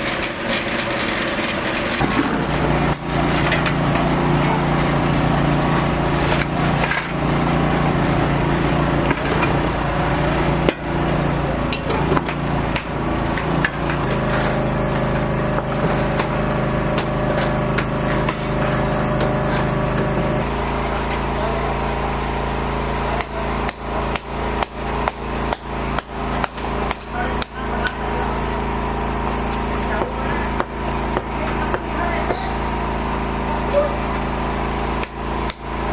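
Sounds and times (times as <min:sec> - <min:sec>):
machine humming: 0:01.4 - 0:35.9.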